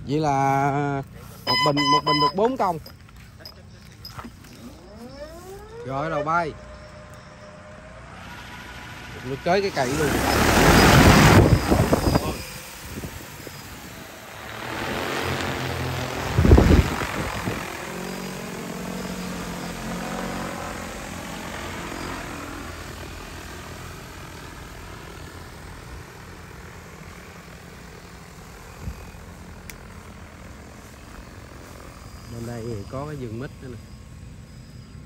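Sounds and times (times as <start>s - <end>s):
drone propeller hum: 1.1s - 35.0s.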